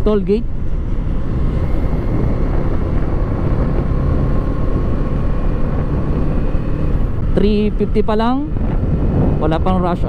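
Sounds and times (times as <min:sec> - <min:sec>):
wind rumble on microphone: 0:00.0 - 0:10.0
motorcycle engine running: 0:00.5 - 0:10.0.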